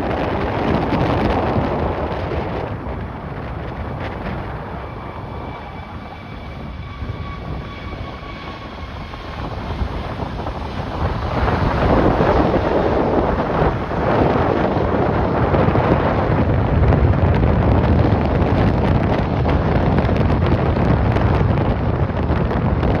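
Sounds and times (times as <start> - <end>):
jet engine roar: 0.0 - 23.0
wind buffeting microphone: 0.0 - 23.0.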